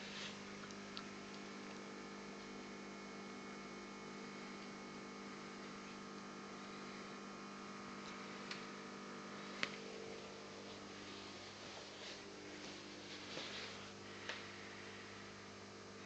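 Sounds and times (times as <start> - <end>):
aquarium equipment hum: 0.0 - 16.0.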